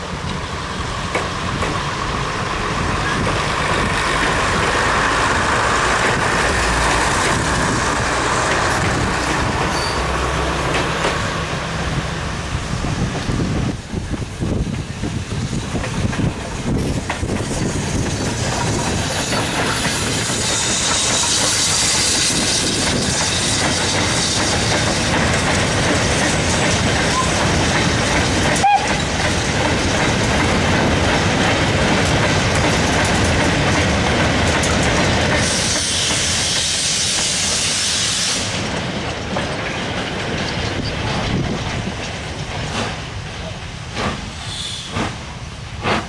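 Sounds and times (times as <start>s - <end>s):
steam locomotive hissing: 0.0s - 46.0s
wagons rumbling over rail joints: 0.0s - 46.0s.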